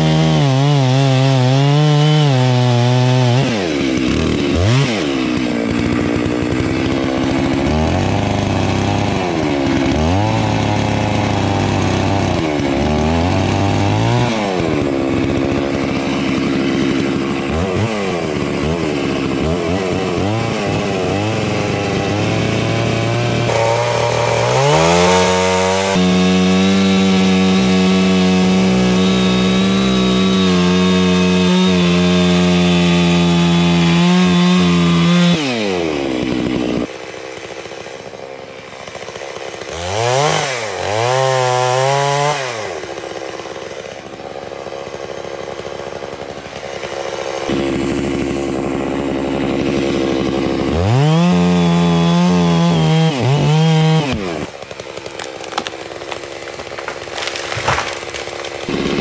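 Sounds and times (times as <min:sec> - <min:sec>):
chainsaw cutting into tree trunk: 0:00.0 - 0:59.0.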